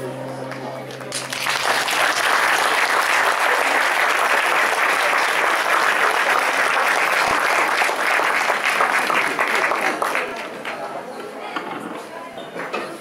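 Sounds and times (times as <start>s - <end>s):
audience applauding: 0.5s - 11.0s.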